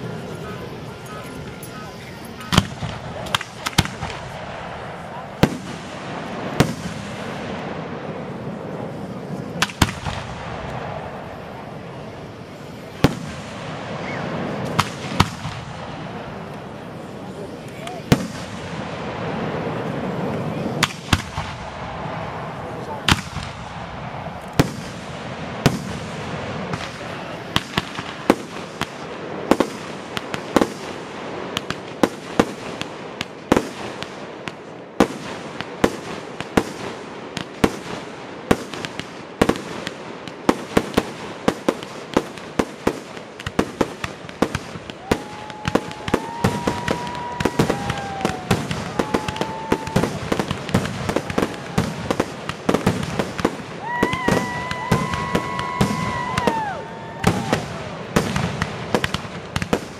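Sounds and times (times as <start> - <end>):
fireworks bangs and crackles: 0.0 - 59.9
fireworks whistling: 0.0 - 59.9.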